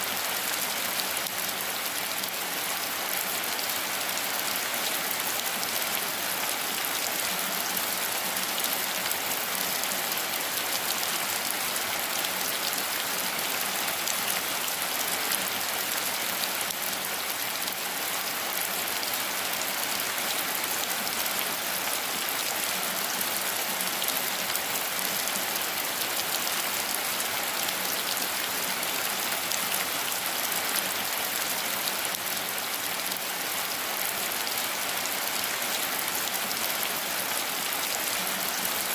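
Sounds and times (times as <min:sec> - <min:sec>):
rain falling on foliage: 0:00.0 - 0:38.9.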